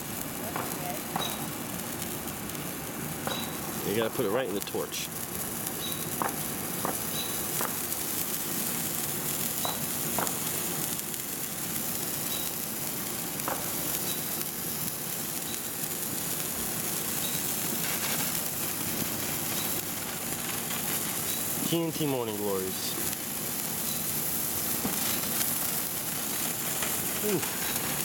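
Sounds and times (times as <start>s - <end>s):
sparklers hissing: 0.0s - 28.0s.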